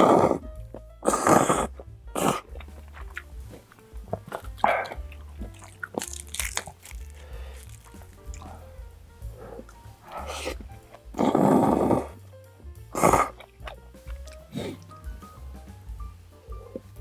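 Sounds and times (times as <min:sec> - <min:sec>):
person chewing crunchy food: 0:00.0 - 0:12.2, 0:12.9 - 0:17.0
background music: 0:00.0 - 0:17.0.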